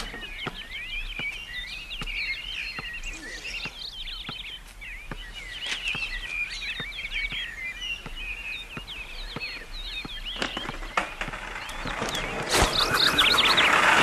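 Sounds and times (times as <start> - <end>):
small birds twittering: 0.0 - 14.0.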